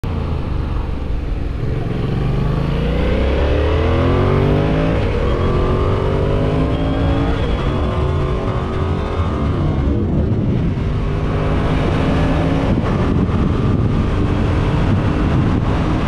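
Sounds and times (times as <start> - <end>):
motorcycle engine accelerating: 0.1 - 16.0.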